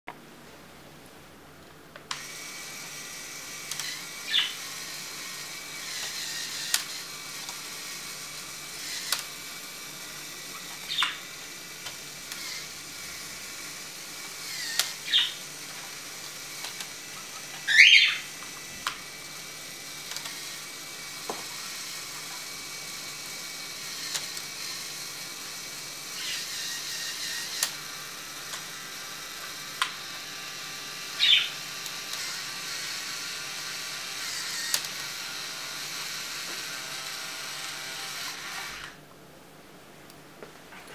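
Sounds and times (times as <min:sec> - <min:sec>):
electric motor whirring: 0:02.1 - 0:39.0.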